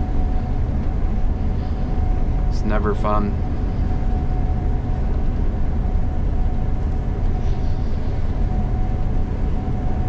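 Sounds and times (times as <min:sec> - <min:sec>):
combine harvester droning: 0:00.0 - 0:10.0
faint constant whine: 0:00.0 - 0:10.0.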